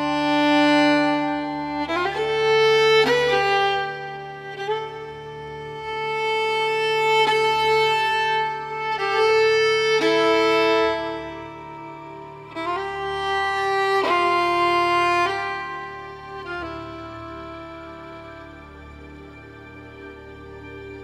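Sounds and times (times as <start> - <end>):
violin playing slow held notes: 0.0 - 21.0.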